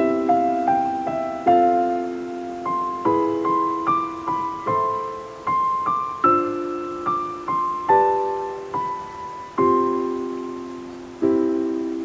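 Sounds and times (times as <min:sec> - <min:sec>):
gentle solo piano: 0:00.0 - 0:12.0.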